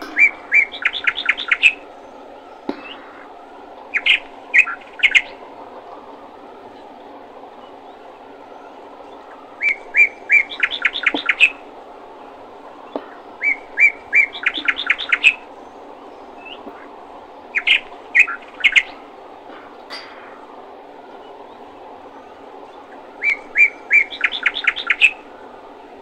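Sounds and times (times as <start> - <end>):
low background noise: 0.0 - 26.0
songbird singing: 0.0 - 26.0.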